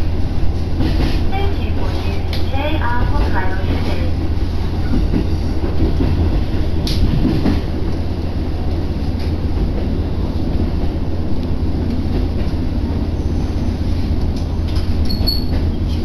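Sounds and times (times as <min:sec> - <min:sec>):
railcar engine drone: 0:00.0 - 0:16.0.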